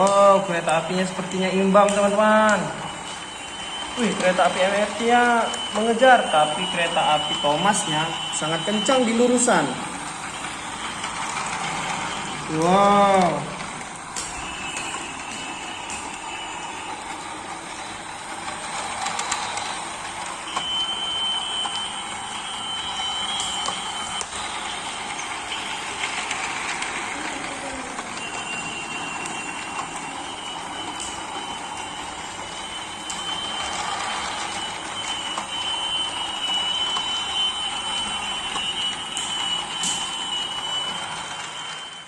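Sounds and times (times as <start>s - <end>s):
thin high whine: 0.0s - 42.0s
toy train motors whirring: 3.2s - 42.0s.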